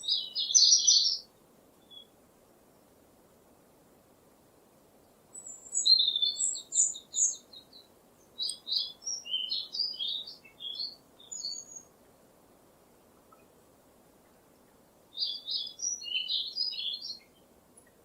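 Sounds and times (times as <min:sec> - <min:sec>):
songbird singing: 0:00.0 - 0:03.9, 0:04.6 - 0:18.0
faint steady hiss: 0:00.0 - 0:18.0.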